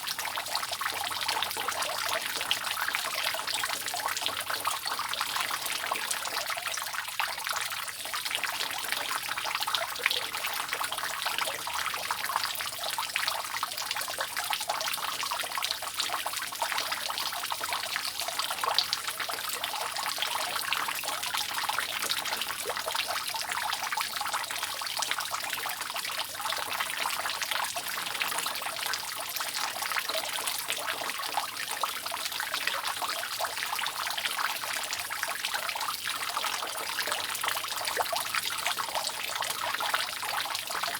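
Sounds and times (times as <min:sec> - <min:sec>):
water dripping off a roof: 0:00.0 - 0:40.9.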